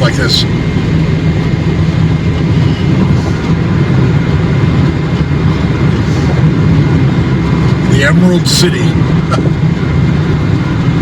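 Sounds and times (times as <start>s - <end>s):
vehicle road and engine drone: 0.0s - 11.0s.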